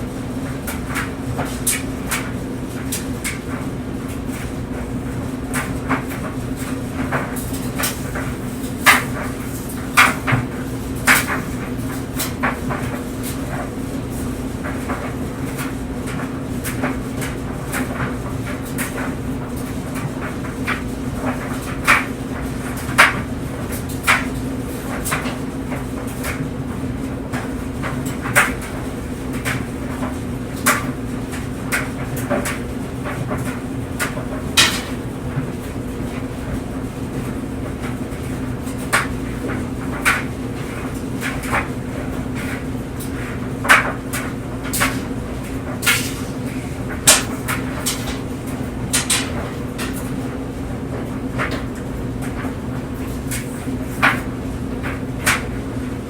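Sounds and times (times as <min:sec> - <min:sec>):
clothes dryer humming: 0:00.0 - 0:56.0
clothes knocking in dryer drum: 0:00.0 - 0:56.0.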